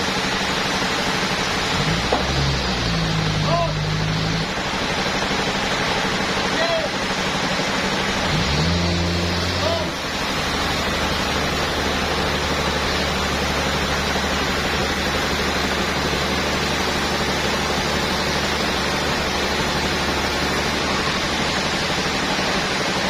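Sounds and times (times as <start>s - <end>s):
sawmill saw rushing: 0.0s - 23.0s.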